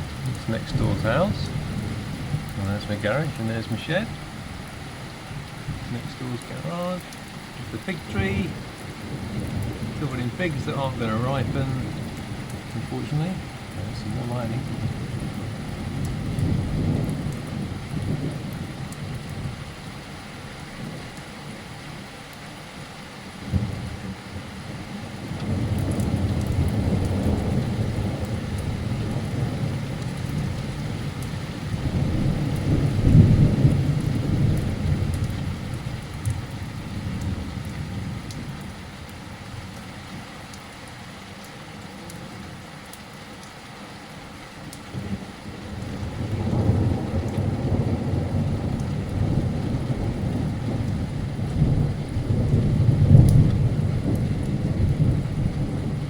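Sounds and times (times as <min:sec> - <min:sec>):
thunder rumbling: 0:00.0 - 0:21.9, 0:23.4 - 0:42.7, 0:44.6 - 0:56.0
steady rain: 0:00.0 - 0:56.0.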